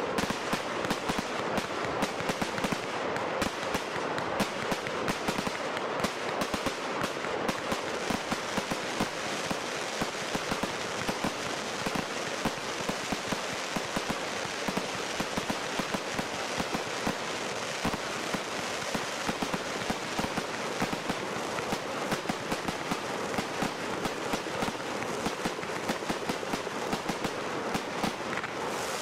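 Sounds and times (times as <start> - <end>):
fireworks crackling: 0.0 - 29.0
steady hiss: 0.0 - 29.0.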